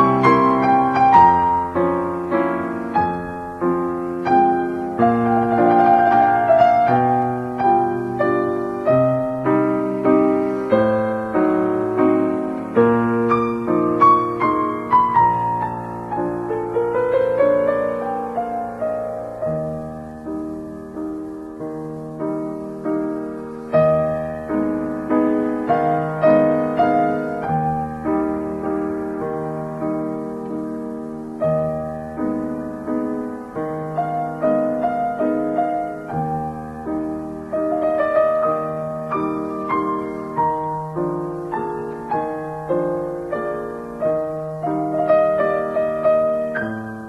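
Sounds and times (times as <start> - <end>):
slow gentle piano melody: 0.0 - 47.0.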